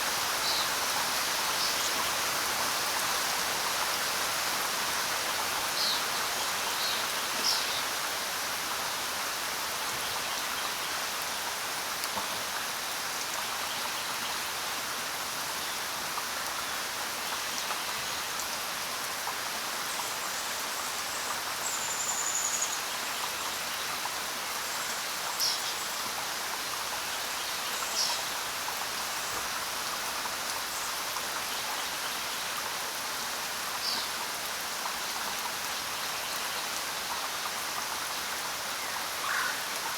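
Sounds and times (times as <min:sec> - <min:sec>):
rain pattering on ground: 0:00.0 - 0:39.9.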